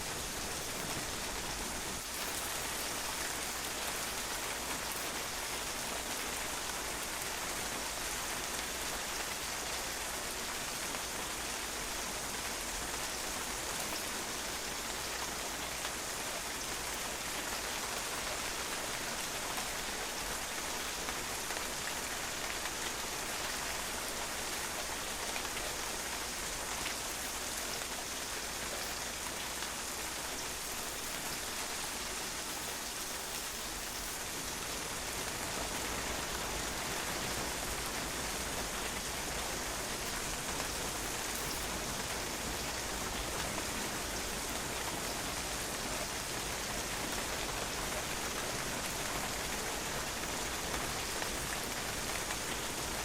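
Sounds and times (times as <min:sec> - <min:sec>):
rain falling on a patio: 0:00.0 - 0:53.0.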